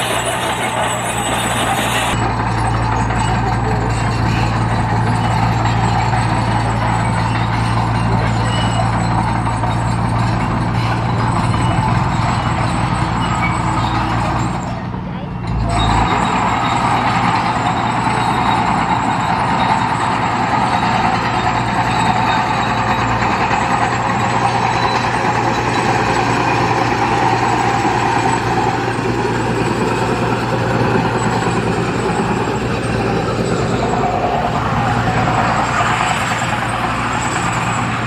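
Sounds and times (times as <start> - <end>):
heavy diesel engine drone: 0.0 - 38.0.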